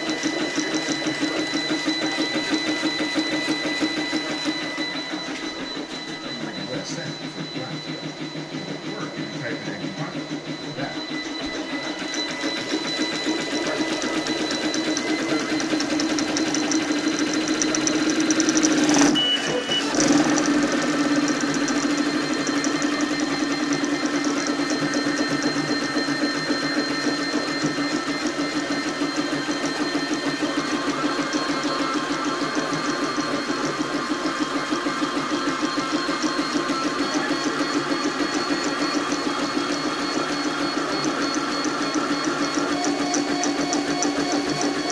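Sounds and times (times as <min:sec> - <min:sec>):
steady whine: 0:00.0 - 0:44.9
three d printer stepper motors buzzing: 0:00.0 - 0:44.9.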